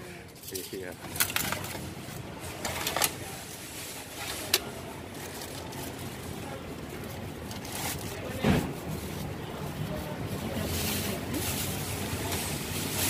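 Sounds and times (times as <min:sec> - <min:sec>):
plastic bag rustling: 0:00.5 - 0:13.0.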